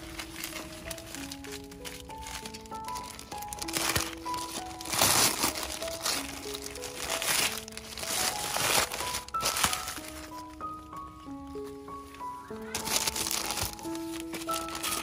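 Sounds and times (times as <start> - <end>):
paper bag crinkling and tearing: 0.0 - 15.0
slow background music: 0.0 - 15.0.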